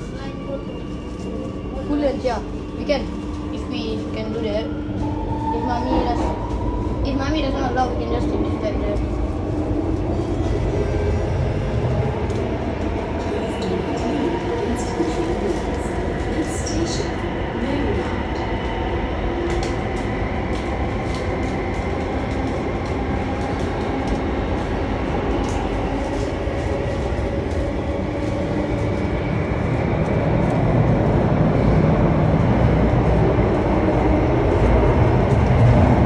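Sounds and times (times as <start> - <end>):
metro carriage rumble: 0.0 - 36.0.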